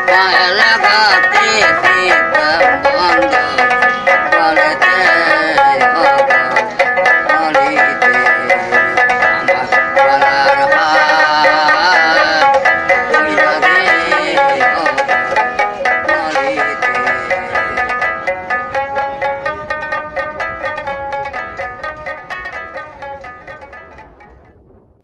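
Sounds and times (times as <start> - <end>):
instrumental music with quick beat: 0.0 - 24.6.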